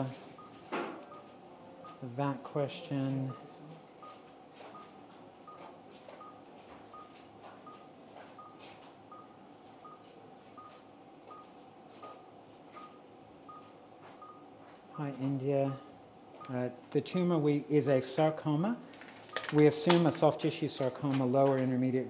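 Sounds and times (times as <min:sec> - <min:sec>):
patient monitor beeping: 0:00.0 - 0:21.4.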